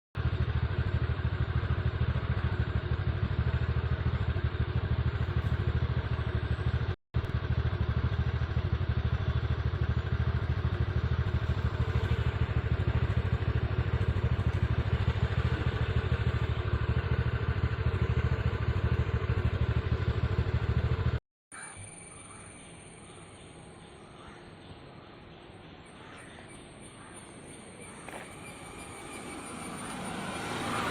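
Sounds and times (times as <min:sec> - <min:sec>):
vehicle rumble: 0:00.2 - 0:21.2, 0:22.7 - 0:30.9.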